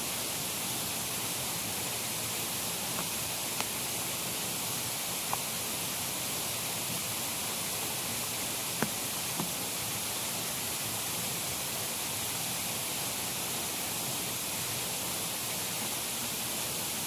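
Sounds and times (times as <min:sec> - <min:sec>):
light drizzling rain: 0:00.0 - 0:17.0.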